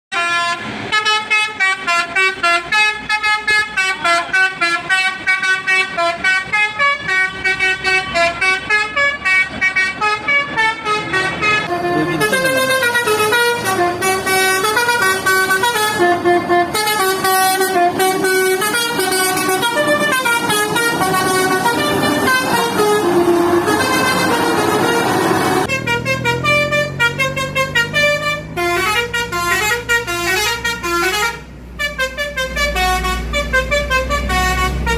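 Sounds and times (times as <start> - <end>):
multi-tone musical bus horn: 0.1 - 34.9.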